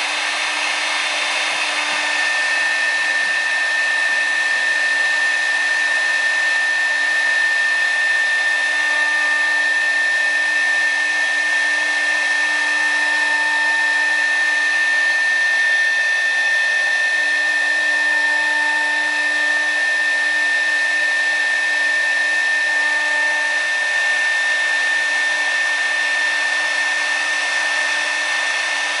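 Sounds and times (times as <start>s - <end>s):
router spindle whine: 0.0s - 29.0s.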